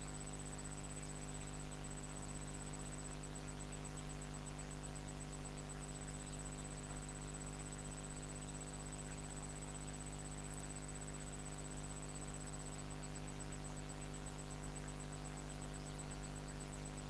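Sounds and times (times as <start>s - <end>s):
electrical hum: 0.0s - 17.0s
pulsing high-pitched whine: 0.0s - 17.0s.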